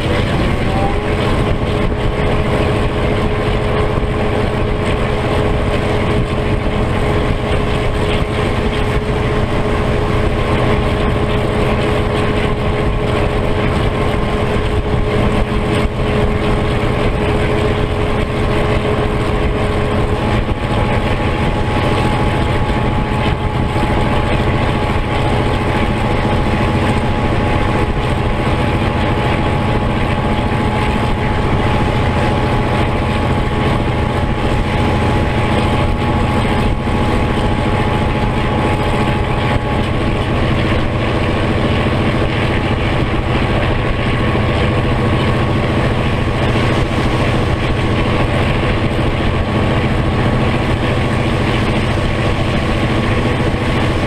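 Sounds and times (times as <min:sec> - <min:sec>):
diesel locomotive engine running: 0:00.0 - 0:54.0
steady whining tone: 0:00.0 - 0:54.0.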